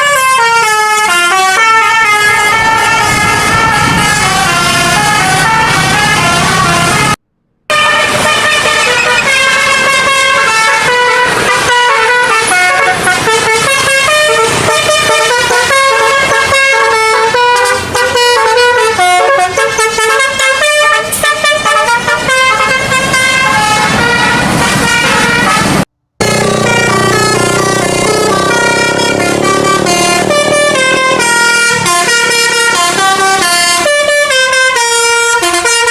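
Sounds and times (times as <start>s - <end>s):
air horn playing a tune: 0.0s - 35.9s.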